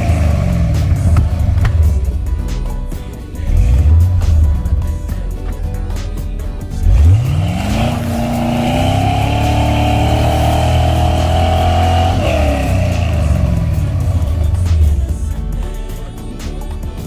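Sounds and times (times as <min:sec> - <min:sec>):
engine revving: 0:00.0 - 0:05.6, 0:06.7 - 0:15.5.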